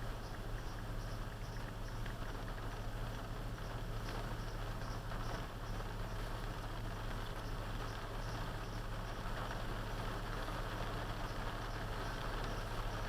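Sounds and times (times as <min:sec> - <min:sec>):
truck engine hum: 0:00.0 - 0:13.0
wet road noise: 0:00.0 - 0:13.0.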